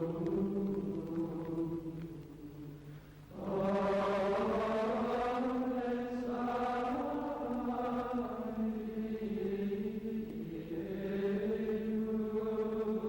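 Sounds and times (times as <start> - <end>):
slow choral chant: 0.0 - 13.0.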